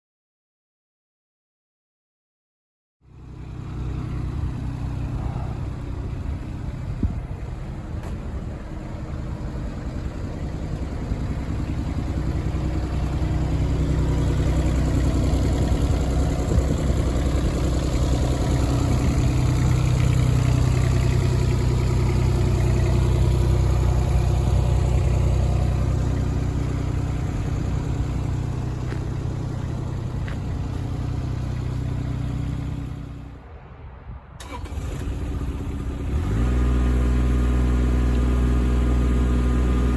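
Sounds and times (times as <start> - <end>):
excavator diesel engine running: 3.1 - 33.4, 34.4 - 39.9.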